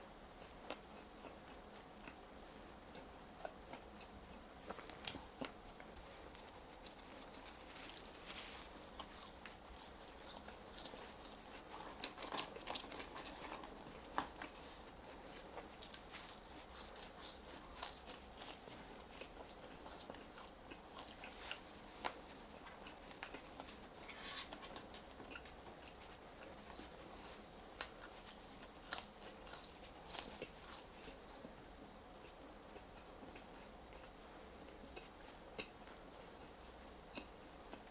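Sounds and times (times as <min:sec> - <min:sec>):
chewing crunchy fries: 0:00.0 - 0:37.9.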